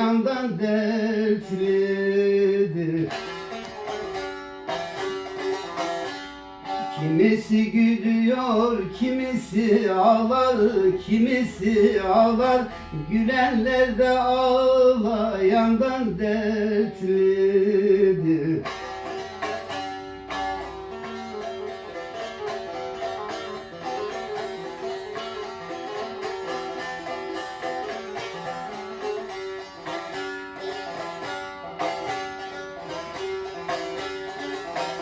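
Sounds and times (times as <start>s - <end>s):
plucked lute melody: 0.0s - 35.0s.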